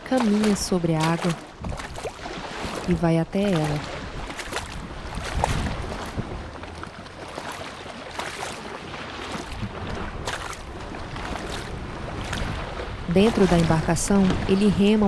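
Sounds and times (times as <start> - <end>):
moving water: 0.0 - 15.0
person wading through water: 0.0 - 15.0
wind: 0.0 - 15.0.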